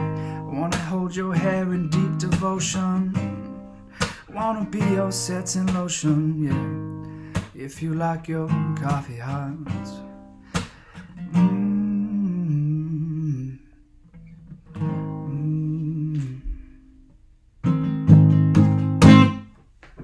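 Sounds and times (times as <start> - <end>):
acoustic guitar strumming: 0.0 - 13.4, 14.1 - 16.9, 17.6 - 19.6.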